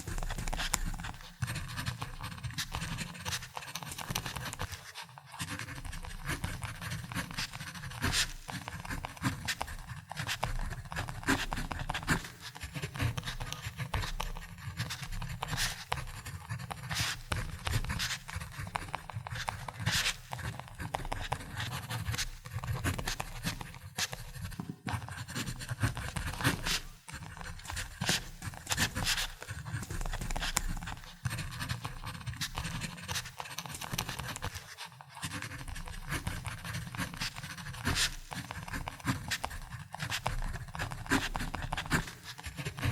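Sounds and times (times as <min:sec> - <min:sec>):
pen writing on paper: 0:00.0 - 0:42.9.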